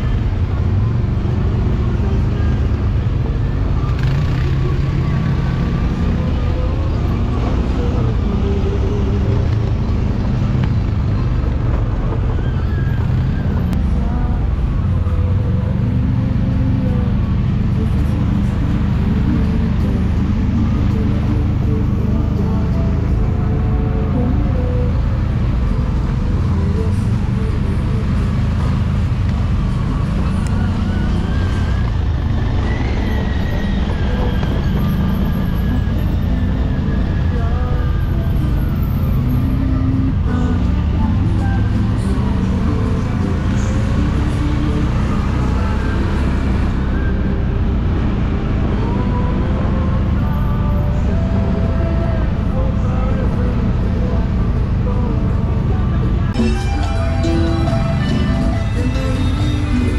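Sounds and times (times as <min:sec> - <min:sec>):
atv engine running: 0:00.0 - 0:59.9
ride noise: 0:00.0 - 0:59.9.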